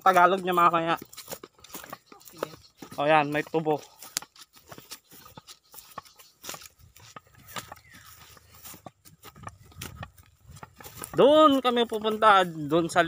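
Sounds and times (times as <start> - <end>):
footsteps through dry grass: 0.0 - 13.0
leaves rustling: 0.0 - 13.0.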